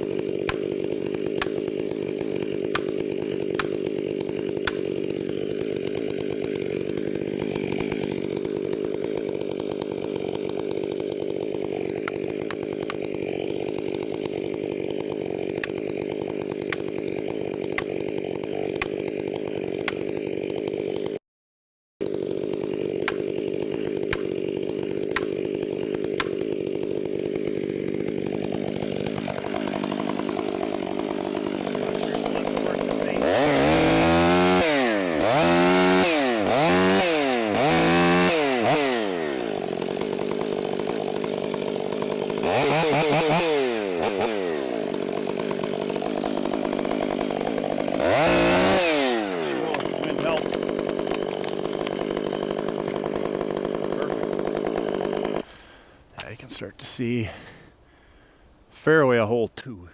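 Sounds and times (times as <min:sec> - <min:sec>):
chainsaw running and revving: 0:00.0 - 0:21.2, 0:22.0 - 0:55.8.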